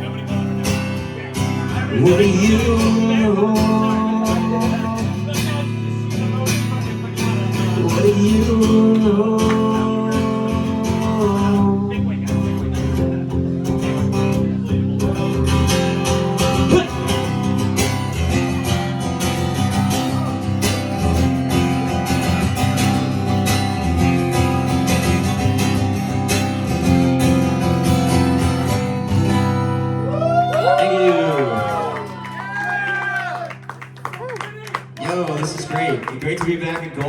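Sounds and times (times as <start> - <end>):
acoustic guitar strumming: 0.0 - 32.2.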